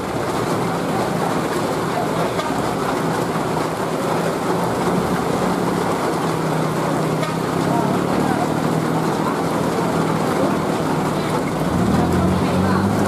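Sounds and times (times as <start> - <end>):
car engine running: 0.0 - 13.0
heavy rain on flooded road: 0.0 - 13.0.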